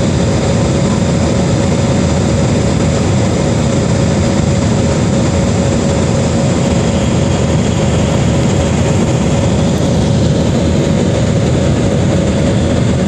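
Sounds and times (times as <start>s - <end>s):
jet engines and rushing airflow: 0.0s - 13.0s.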